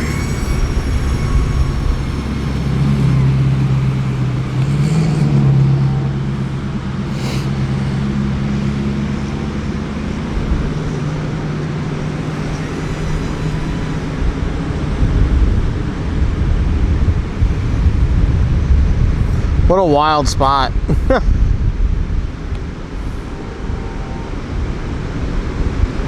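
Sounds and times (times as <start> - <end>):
low engine hum: 0.0 - 26.0
wind buffeting microphone: 0.0 - 26.0.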